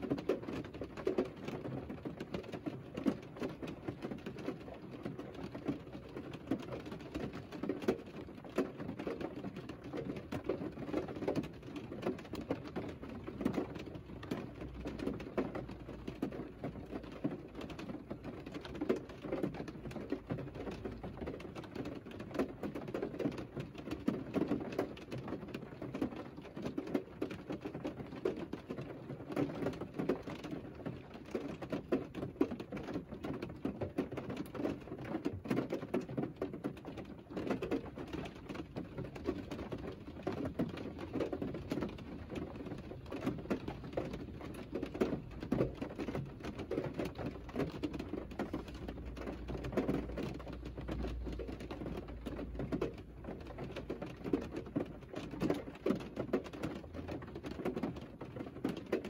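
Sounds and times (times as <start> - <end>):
rain pattering on car roof: 0.0 - 59.0.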